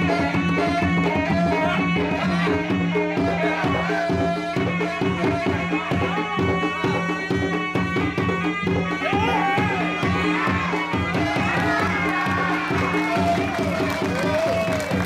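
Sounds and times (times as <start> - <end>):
reedy wind instrument melody: 0.0 - 15.0
fast drum strokes: 2.2 - 15.0.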